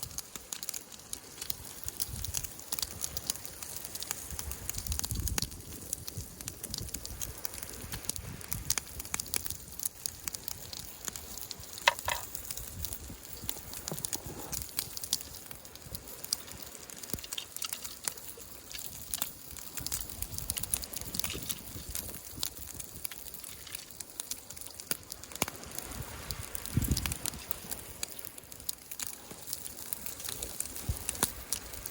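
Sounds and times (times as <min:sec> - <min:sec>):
campfire crackling and snapping: 0:00.0 - 0:31.9.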